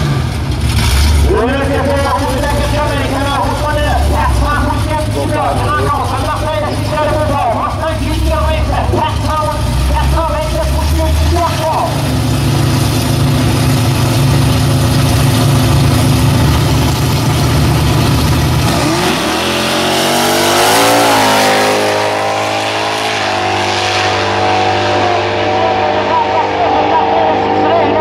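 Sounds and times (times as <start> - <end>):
drag car engines accelerating: 0.0 - 28.0.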